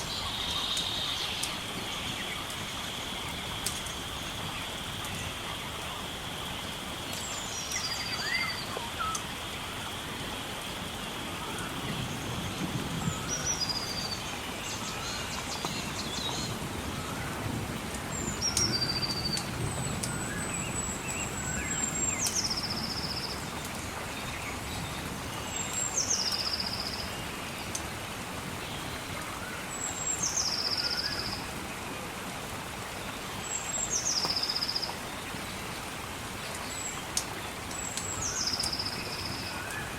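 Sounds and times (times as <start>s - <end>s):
rain-like noise: 0.0s - 39.9s.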